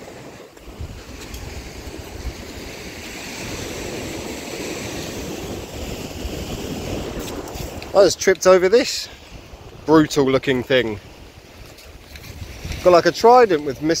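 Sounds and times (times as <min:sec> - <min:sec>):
surf washing on beach: 0:00.0 - 0:14.0
wind blowing across microphone: 0:00.0 - 0:14.0.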